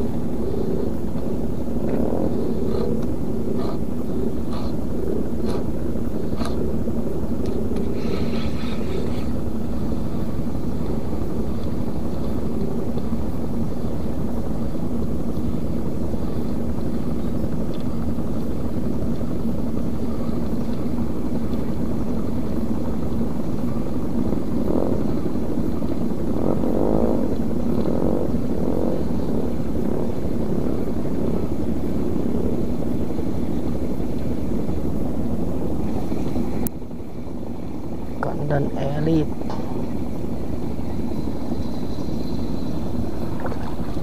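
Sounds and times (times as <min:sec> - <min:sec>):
low motor drone: 0:00.0 - 0:44.0.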